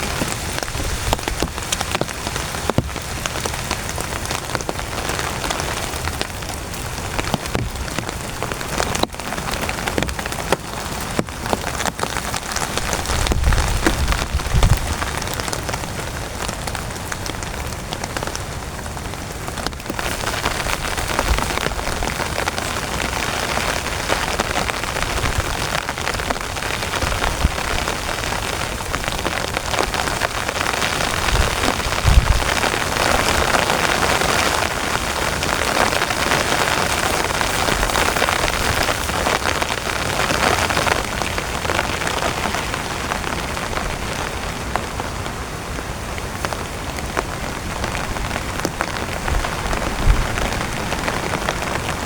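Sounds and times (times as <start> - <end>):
heavy rain on tent fabric: 0.0 - 52.0.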